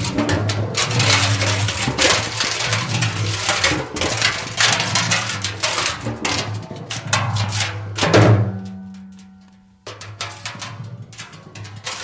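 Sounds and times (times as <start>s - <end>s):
metal barrel clanging: 0.0s - 12.0s.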